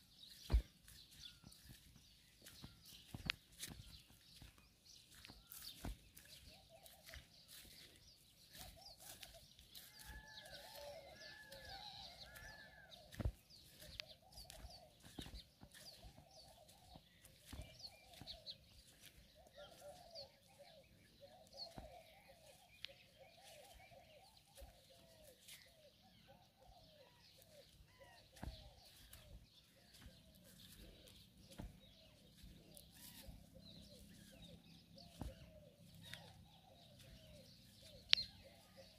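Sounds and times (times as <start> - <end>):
birds calling faintly: 0.0 - 38.9.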